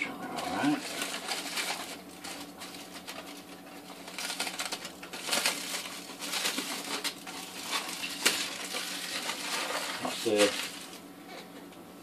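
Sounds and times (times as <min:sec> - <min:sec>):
aluminium foil crinkling: 0:00.2 - 0:11.0.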